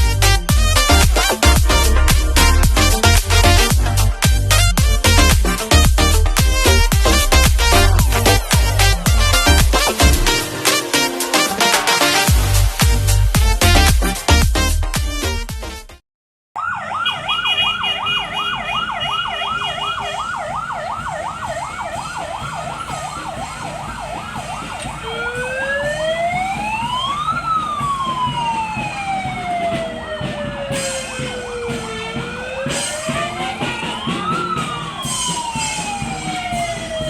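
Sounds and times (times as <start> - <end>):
vehicle siren: 0.5 - 12.4, 16.6 - 37.0.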